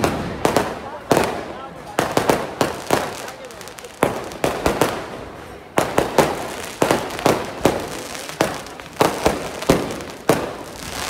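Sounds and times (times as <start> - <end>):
firecrackers bursting: 0.0 - 11.0.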